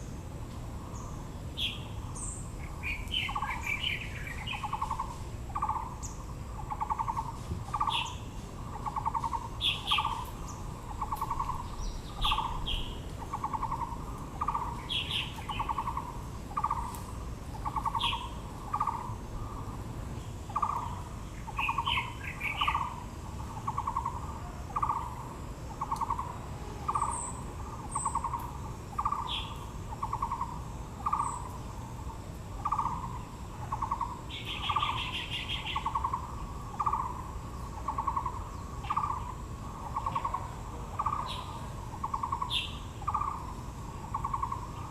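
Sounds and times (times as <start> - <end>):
birds chirping: 0.8 - 44.9
bird low rattling call: 2.6 - 19.6, 20.5 - 25.2, 26.9 - 31.5, 32.6 - 43.5, 44.1 - 44.9.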